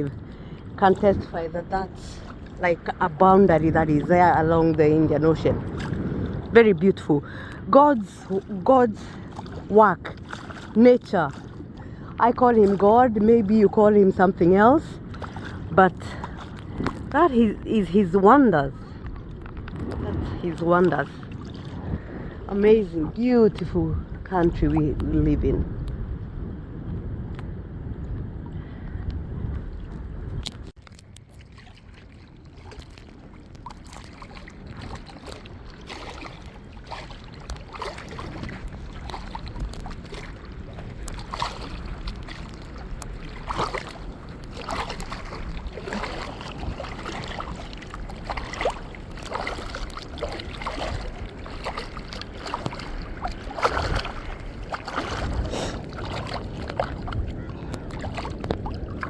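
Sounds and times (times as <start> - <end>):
shallow seawater sloshing: 0.0 - 59.0.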